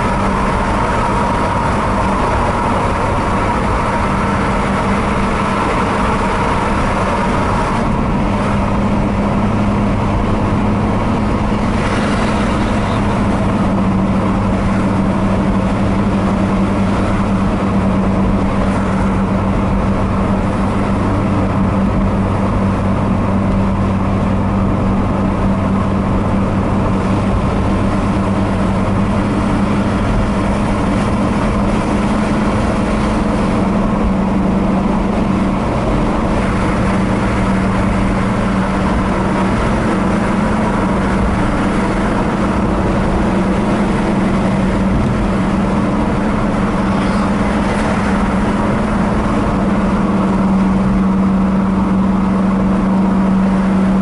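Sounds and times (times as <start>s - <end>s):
car engine drone: 0.0s - 54.0s
road and tyre noise: 0.0s - 54.0s.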